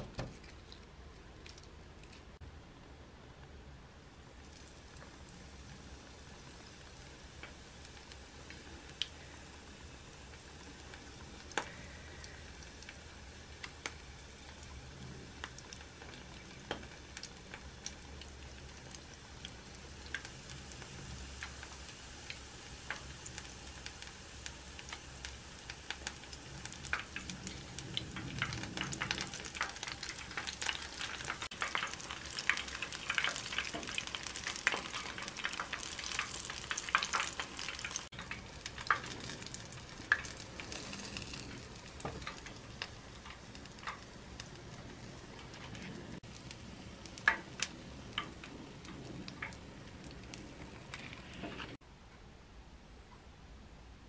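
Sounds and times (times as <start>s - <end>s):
tempura frying in hot oil: 3.4s - 51.8s.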